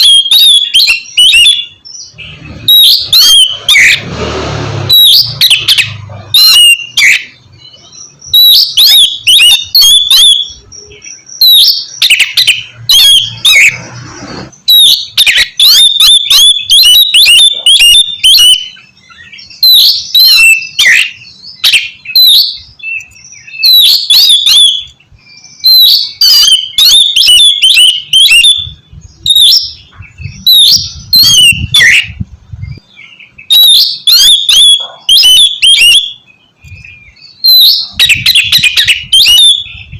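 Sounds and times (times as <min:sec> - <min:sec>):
magpie-robin singing: 0:00.0 - 0:04.1, 0:04.9 - 0:39.9.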